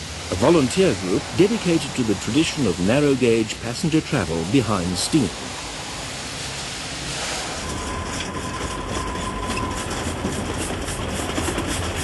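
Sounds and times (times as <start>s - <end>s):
steam locomotive exhaust beats: 0.0s - 12.0s.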